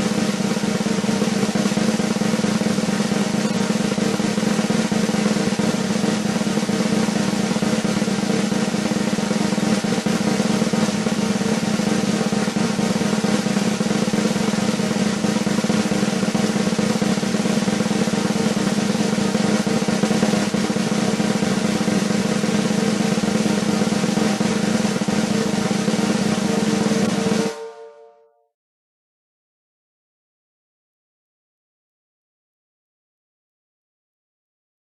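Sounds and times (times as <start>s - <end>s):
snare drum roll: 0.0s - 28.0s.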